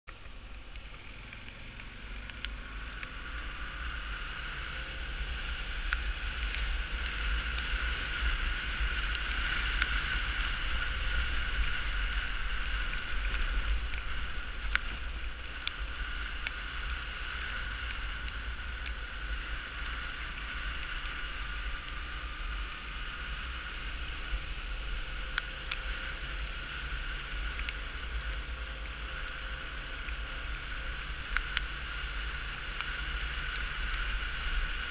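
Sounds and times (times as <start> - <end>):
wind rumble on microphone: 0.1 - 34.9.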